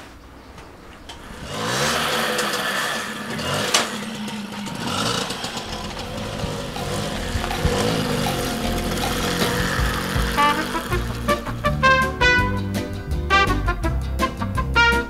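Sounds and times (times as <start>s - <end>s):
moped engine starting and revving: 1.0s - 13.2s.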